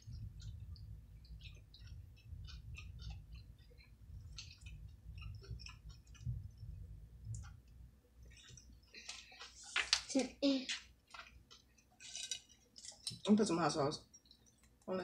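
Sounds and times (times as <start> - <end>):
person chewing food: 0.0 - 9.8, 10.8 - 13.2, 14.1 - 14.8.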